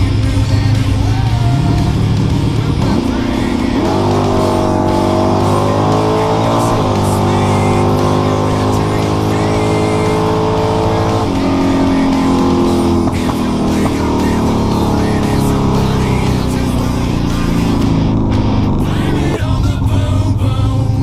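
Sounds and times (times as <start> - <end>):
race car engine: 0.0 - 21.0
rock music: 0.0 - 21.0.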